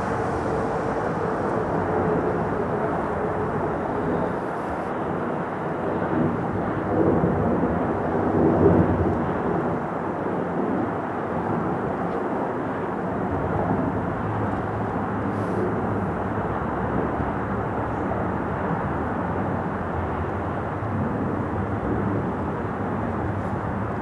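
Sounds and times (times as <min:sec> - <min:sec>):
distant jet engines roaring: 0:00.0 - 0:24.0.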